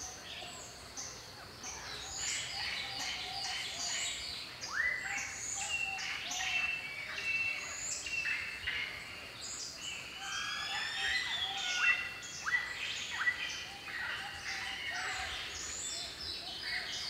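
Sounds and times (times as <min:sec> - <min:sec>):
birds chirping and whistling: 0:01.8 - 0:17.0.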